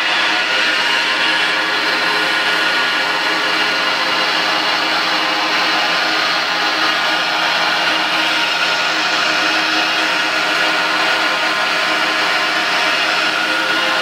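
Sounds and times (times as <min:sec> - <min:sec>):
surface grinder machine hum and whine: 0:00.0 - 0:14.0.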